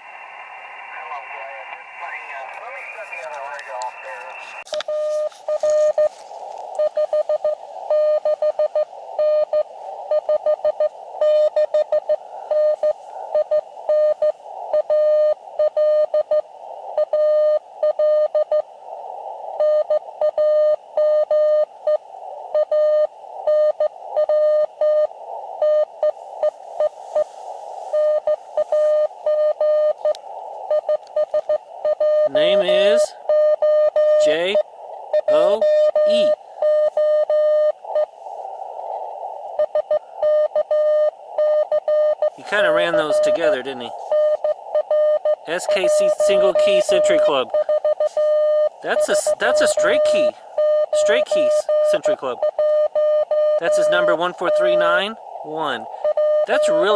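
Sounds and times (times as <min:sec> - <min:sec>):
receiver hiss: 0:00.0 - 0:56.9
morse code tone: 0:02.0 - 0:16.4, 0:22.6 - 0:38.1, 0:39.6 - 0:56.9.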